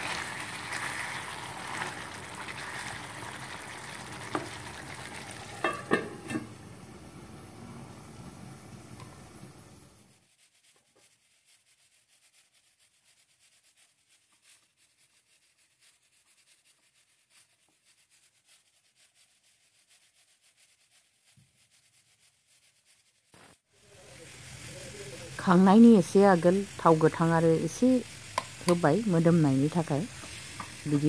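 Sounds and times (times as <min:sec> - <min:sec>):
curry sizzling in a frying pan: 0:00.0 - 0:19.2, 0:23.4 - 0:31.0.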